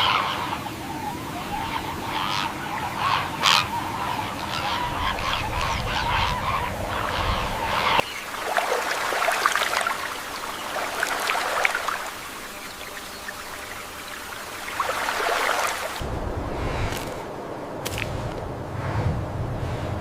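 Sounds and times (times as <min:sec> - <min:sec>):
water trickling and splashing: 0:00.0 - 0:18.5.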